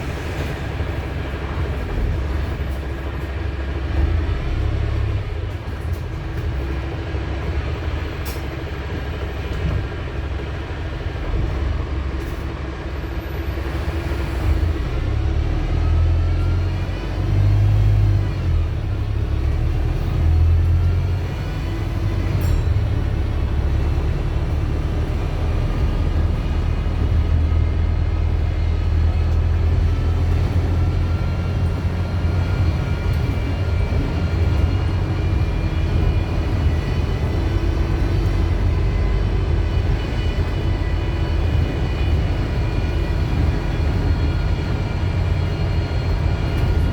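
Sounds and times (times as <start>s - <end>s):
bus diesel engine rumble: 0.0s - 46.9s.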